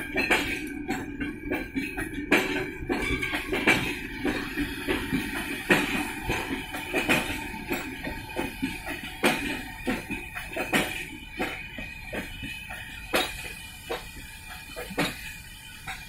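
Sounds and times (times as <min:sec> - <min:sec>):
train rumble: 0:00.0 - 0:16.0
train wheels knocking on rail joints: 0:00.0 - 0:16.0.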